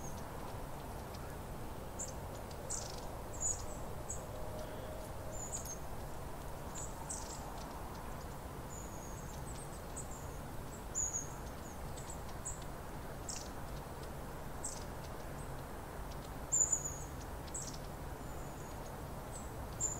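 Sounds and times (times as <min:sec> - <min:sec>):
steady low background noise: 0:00.0 - 0:19.9.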